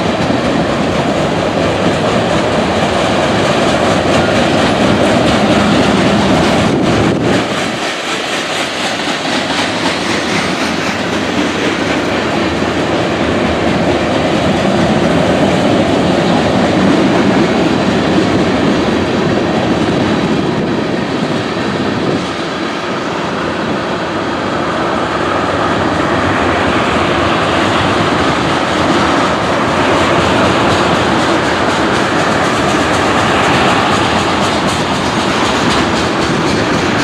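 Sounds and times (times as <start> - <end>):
rail cars clattering: 0.0 - 37.0
wheels rushing on rail: 0.0 - 37.0.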